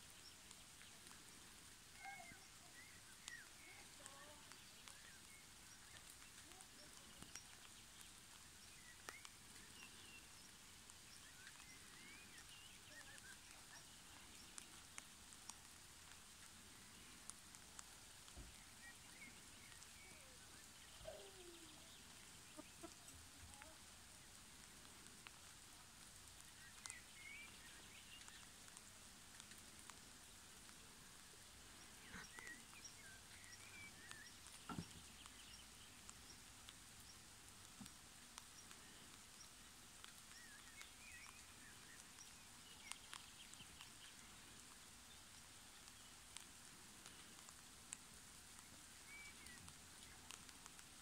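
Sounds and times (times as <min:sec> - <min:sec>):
small clicks: 0:03.2 - 0:51.0.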